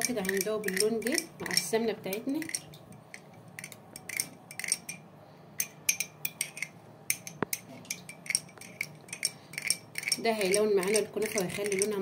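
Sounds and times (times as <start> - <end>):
spoon clinking in glass cup: 0.0 - 1.7, 2.4 - 12.0.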